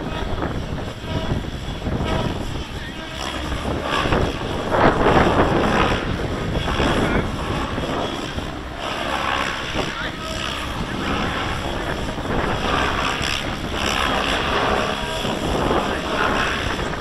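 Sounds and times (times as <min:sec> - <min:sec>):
helicopter rotor noise: 0:00.0 - 0:17.0
wind buffeting microphone: 0:00.0 - 0:17.0.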